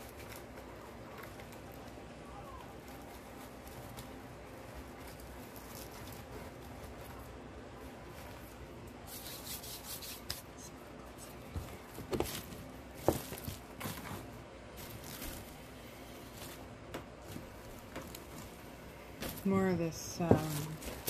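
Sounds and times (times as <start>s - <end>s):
rustling artificial greenery: 0.0s - 21.0s.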